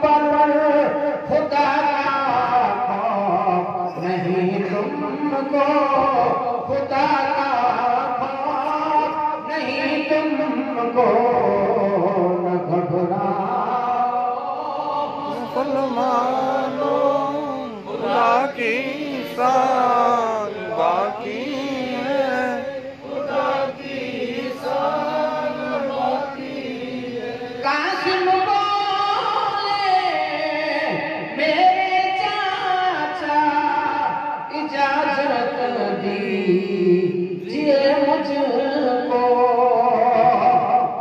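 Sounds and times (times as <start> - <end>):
man chanting into a microphone: 0.0 - 41.0.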